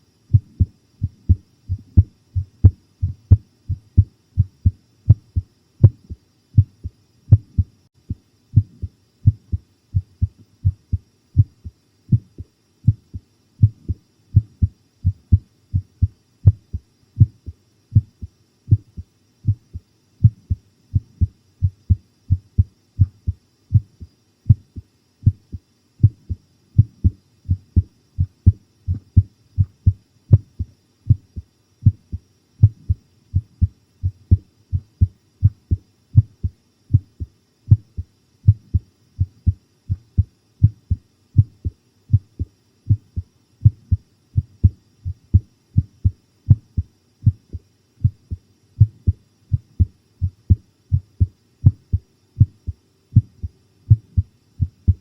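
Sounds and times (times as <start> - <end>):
heartbeat thumps: 0.3 - 55.0.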